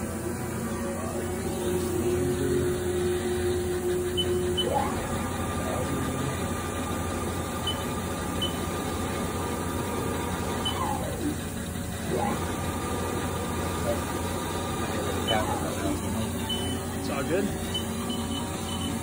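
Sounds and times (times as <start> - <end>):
lathe spindle motor whine: 0.0 - 19.0
steady machine hum: 0.0 - 19.0.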